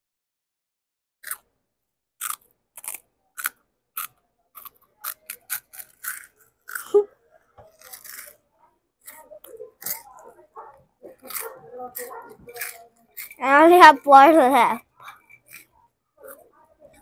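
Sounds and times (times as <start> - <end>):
child chewing crunchy snack: 1.2 - 1.5, 2.2 - 17.0.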